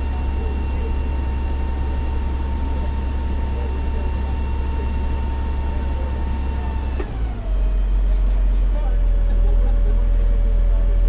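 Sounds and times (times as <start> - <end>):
fire engine engine drone: 0.0 - 11.0.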